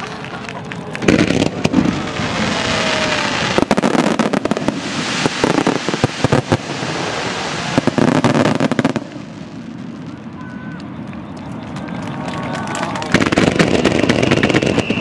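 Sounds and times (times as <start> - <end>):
dense crackling hiss: 0.0 - 15.0.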